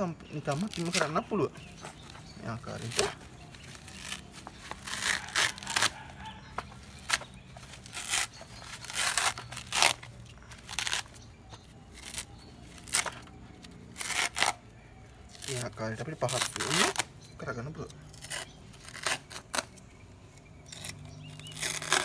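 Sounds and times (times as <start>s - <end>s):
coconut fibre being torn: 0.2s - 22.0s.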